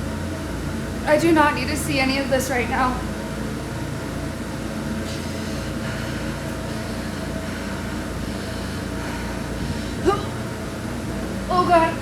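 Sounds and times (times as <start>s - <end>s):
low droning hum with hiss: 0.0s - 12.0s.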